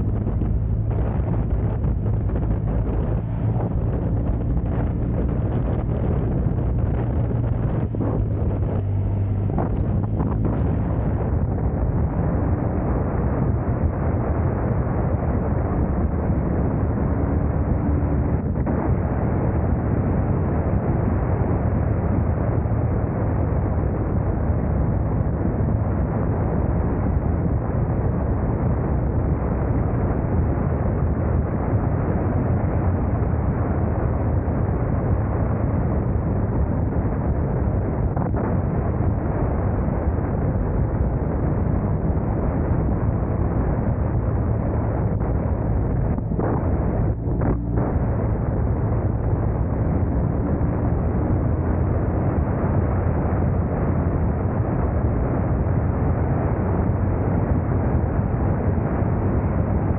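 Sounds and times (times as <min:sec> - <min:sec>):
low rumble while riding: 0:00.0 - 0:59.9
wind rushing over microphone: 0:00.0 - 0:59.9.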